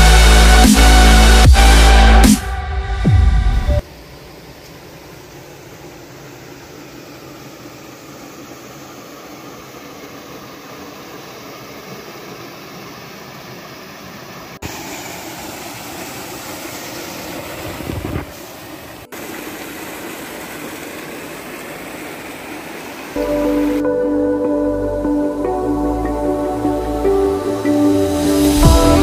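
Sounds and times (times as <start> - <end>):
low water rush: 0.0 - 29.0
stream and waterfall rushing: 3.7 - 29.0.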